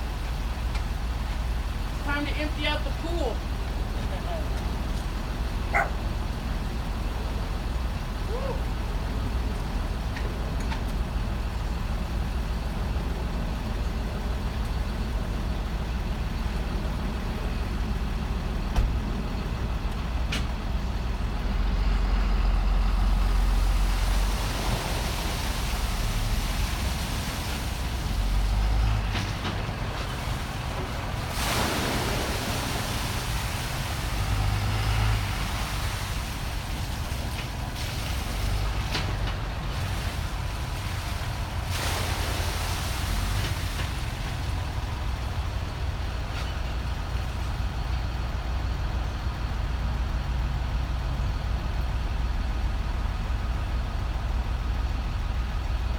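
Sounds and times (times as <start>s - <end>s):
diesel truck engine rumbling: 0.0s - 55.9s.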